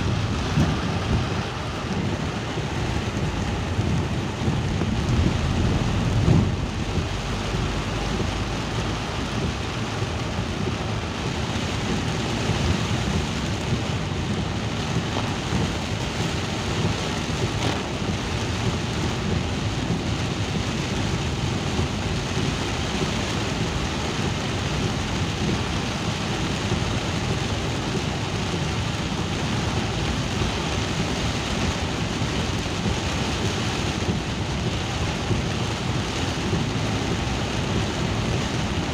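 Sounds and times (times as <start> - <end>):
continuous low rumble: 0.0 - 38.9
steady rain: 0.0 - 38.9.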